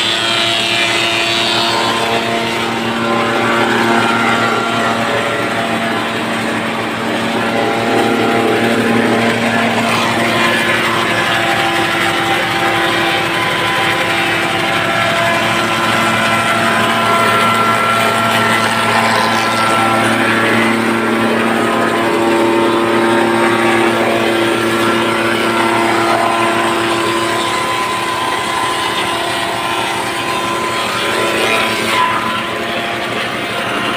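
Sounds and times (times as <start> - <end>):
wood planer running: 0.0 - 33.9.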